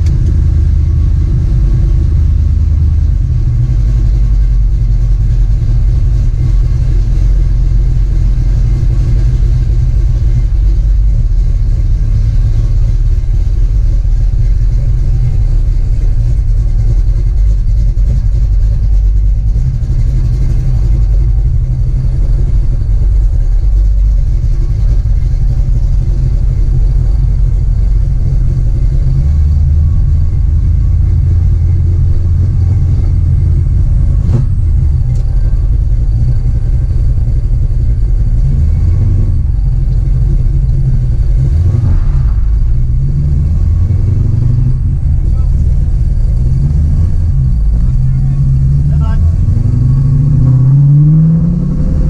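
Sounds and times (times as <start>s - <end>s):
car engine rumbling: 0.0s - 52.0s.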